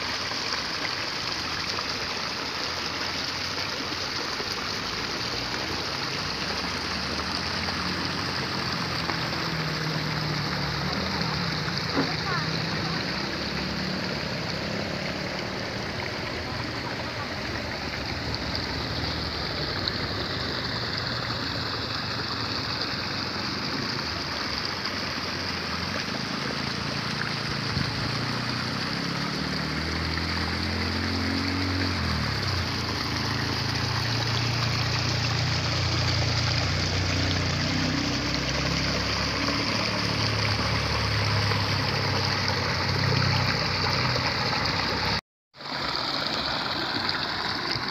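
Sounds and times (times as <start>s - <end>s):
water trickling in channels: 0.0s - 47.9s.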